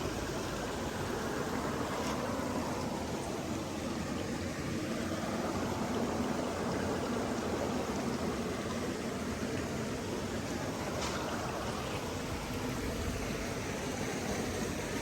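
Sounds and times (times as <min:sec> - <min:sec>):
water flowing: 0:00.0 - 0:15.0.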